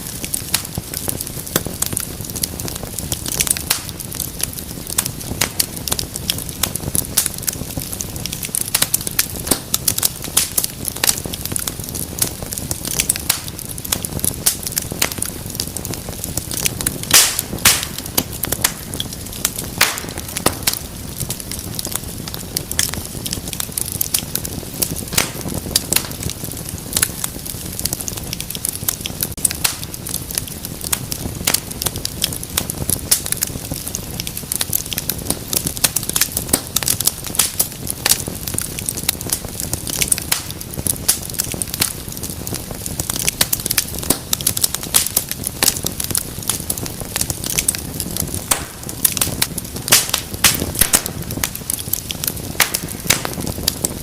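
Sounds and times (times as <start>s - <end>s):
fire snaps and pops: 0.0s - 54.0s
low rumble of flame: 0.0s - 54.0s
wood fire crackling: 0.0s - 54.0s.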